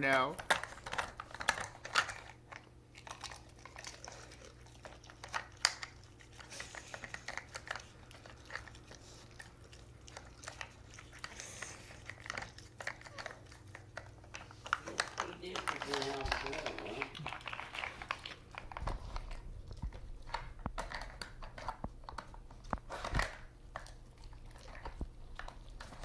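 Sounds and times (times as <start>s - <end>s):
dog chewing treats: 0.0s - 26.0s.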